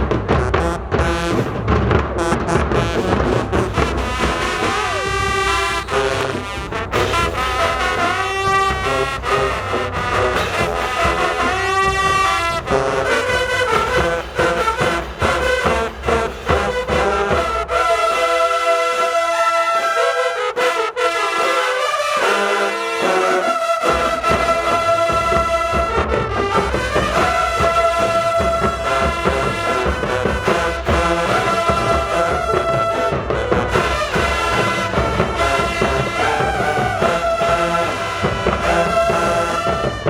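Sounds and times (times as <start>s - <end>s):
marching band brass: 0.0s - 40.0s
marching band drums: 0.0s - 40.0s.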